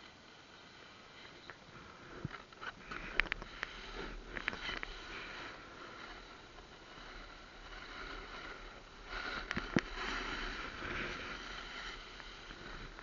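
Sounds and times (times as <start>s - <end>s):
snowboard scraping over snow: 2.1s - 13.0s.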